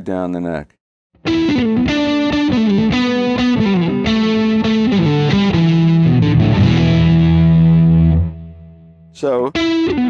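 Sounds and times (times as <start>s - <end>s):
distorted electric guitar lick: 1.2s - 10.0s.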